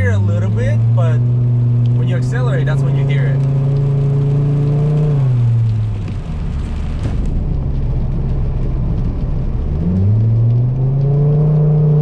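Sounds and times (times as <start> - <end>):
car engine rumble from inside cabin: 0.0 - 12.0.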